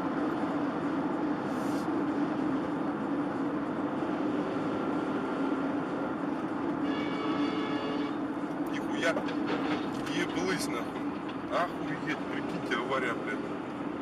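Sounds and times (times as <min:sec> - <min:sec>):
vehicle engine and road hum: 0:00.0 - 0:14.0.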